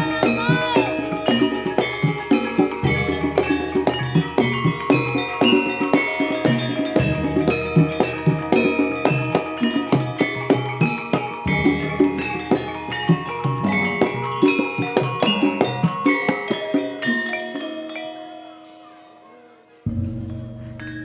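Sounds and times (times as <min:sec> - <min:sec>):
hand drum strokes: 0:00.0 - 0:17.0, 0:19.9 - 0:21.0
gamelan metallophones and gongs: 0:00.0 - 0:21.0.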